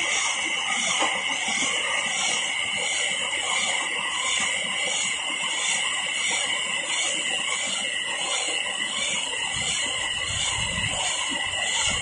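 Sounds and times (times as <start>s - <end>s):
baler mechanical whine: 0.0s - 12.0s.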